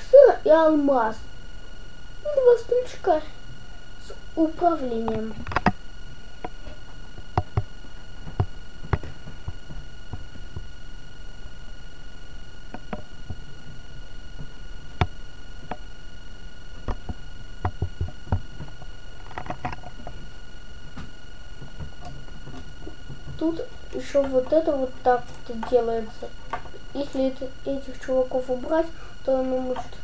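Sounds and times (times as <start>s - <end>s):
electrical hum and hiss: 0.0s - 30.0s.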